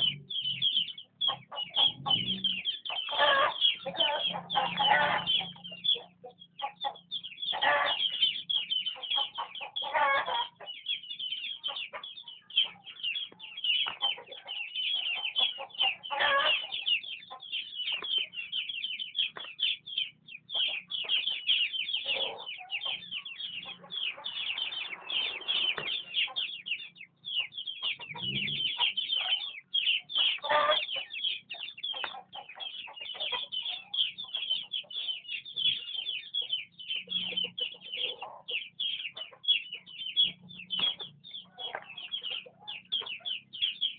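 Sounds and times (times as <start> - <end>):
chickens clucking squawks: 0.0 - 43.9
chicks cheeping: 0.0 - 43.9.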